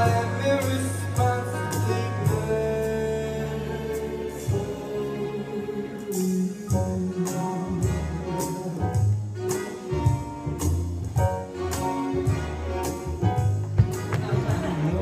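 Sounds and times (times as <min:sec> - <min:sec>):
jazz band music over loudspeakers: 0:00.0 - 0:15.0.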